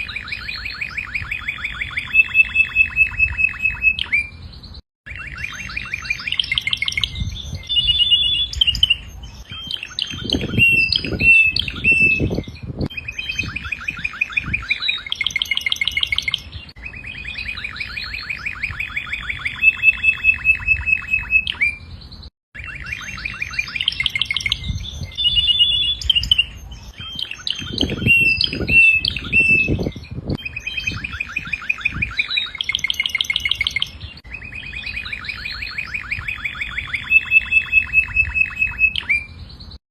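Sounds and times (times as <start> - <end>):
canary singing: 0.0 - 39.8.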